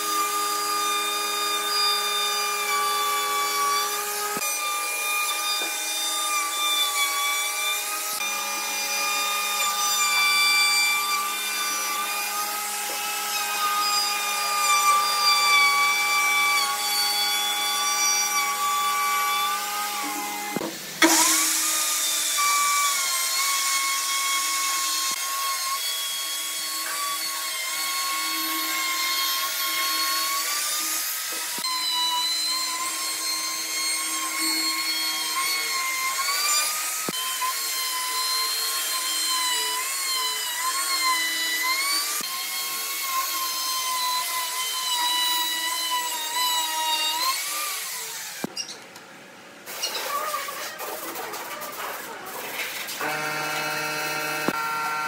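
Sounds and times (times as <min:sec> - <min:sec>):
electric router whining: 0:00.0 - 0:48.5, 0:53.0 - 0:55.0.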